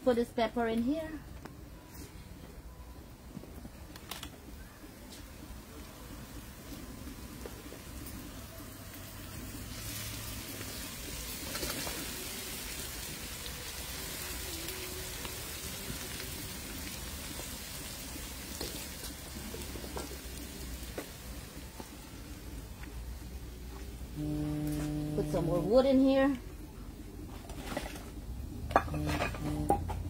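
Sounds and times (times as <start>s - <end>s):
peppers sizzling in hot oil: 4.9s - 26.3s, 27.2s - 30.0s.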